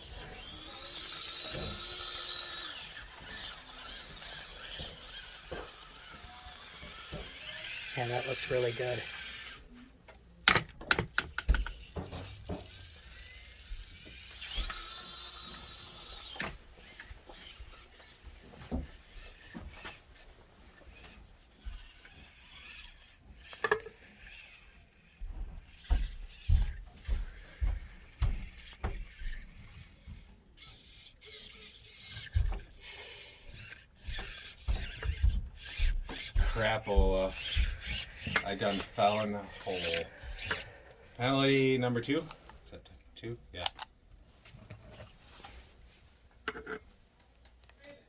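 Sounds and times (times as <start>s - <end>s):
small electric motor whining: 0.0s - 42.8s.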